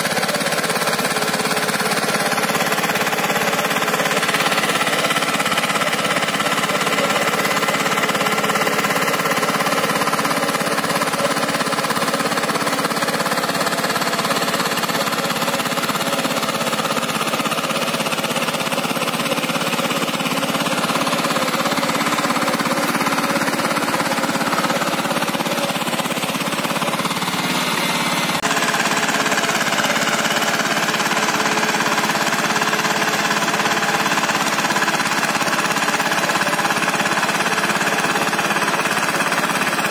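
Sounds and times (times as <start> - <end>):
tiller diesel engine running: 0.0 - 39.9.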